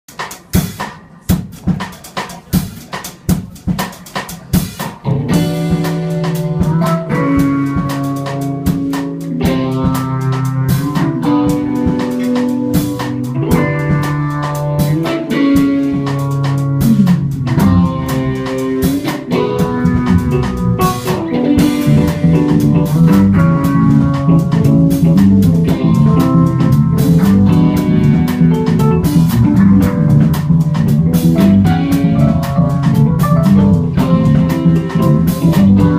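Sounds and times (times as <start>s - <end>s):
drum kit: 0.1s - 35.9s
electric guitar: 4.5s - 35.9s
electric bass: 5.0s - 35.9s.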